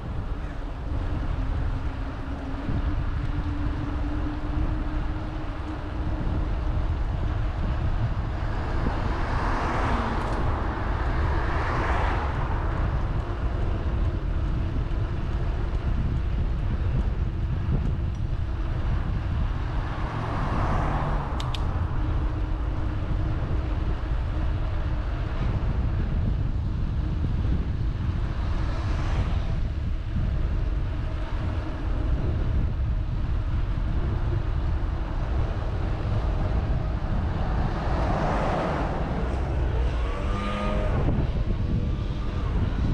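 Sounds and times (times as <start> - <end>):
road vehicles passing: 0.0 - 42.9
wind rumble on microphone: 0.0 - 42.9.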